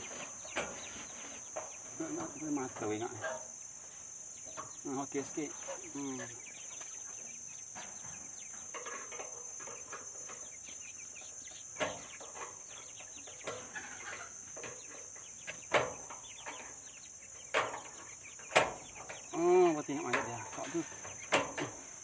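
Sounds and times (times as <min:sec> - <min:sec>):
chickens clucking: 0:00.0 - 0:22.0
steady high-pitched hiss: 0:00.0 - 0:22.0.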